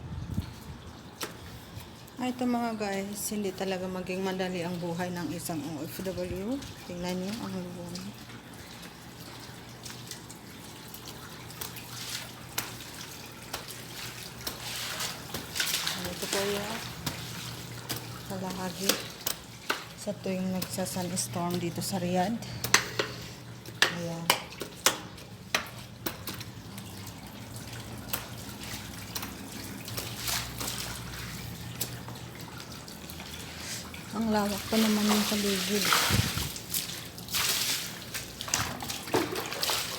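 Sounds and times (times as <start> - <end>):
hose water splashing on ground: 0.3 - 39.9
water drips: 0.3 - 39.9.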